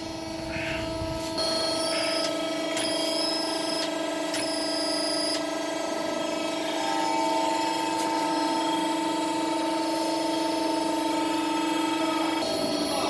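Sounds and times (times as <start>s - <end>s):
machinery whine: 0.0s - 13.0s.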